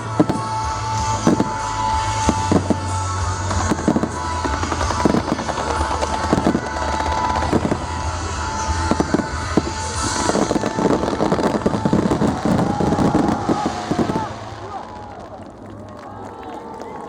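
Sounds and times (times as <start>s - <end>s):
music playing: 0.0s - 15.8s
fireworks bursting: 0.0s - 17.0s.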